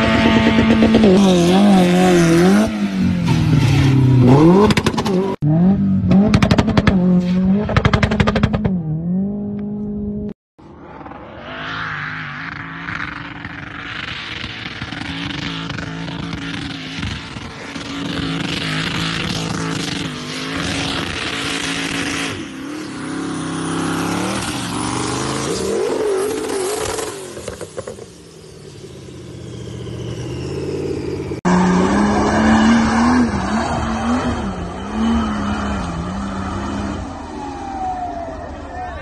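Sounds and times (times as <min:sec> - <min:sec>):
off-road engines revving: 0:00.0 - 0:10.4, 0:11.7 - 0:28.4, 0:29.2 - 0:39.0.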